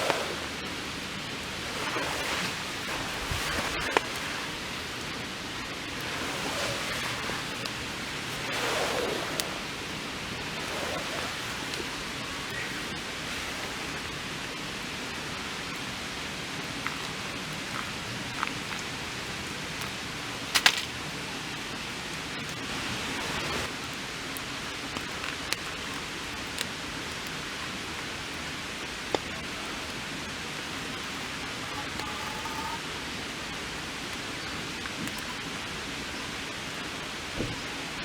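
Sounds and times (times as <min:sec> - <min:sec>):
rain hissing: 0:00.0 - 0:38.0.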